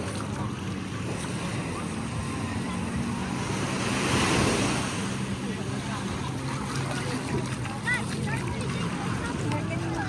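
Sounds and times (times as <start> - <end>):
beach surf washing in: 0.0 - 10.0.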